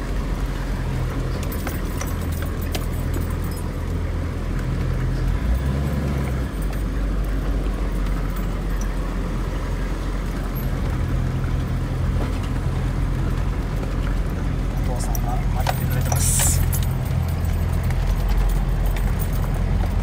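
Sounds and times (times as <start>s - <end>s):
engine rumbling at low speed: 0.0s - 20.0s.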